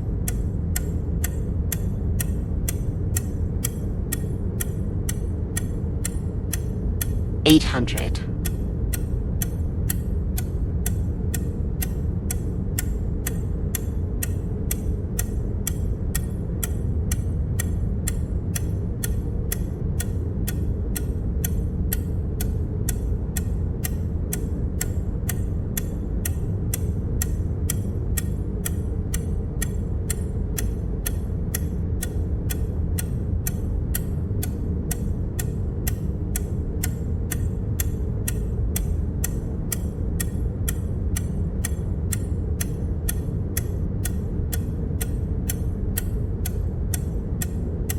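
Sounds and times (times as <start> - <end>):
steady low hum: 0.0 - 47.9
ticking clicks: 0.3 - 47.9.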